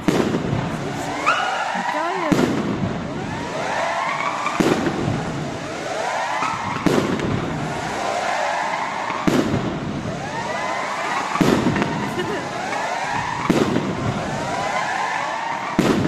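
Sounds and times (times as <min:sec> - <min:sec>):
firework shells bursting: 0:00.0 - 0:16.0
rising whistling tones: 0:00.0 - 0:16.0.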